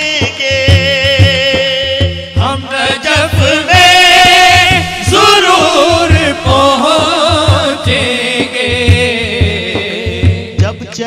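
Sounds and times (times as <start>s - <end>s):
frame drum beat: 0.0s - 11.0s
man singing melismatic phrases: 0.0s - 11.0s.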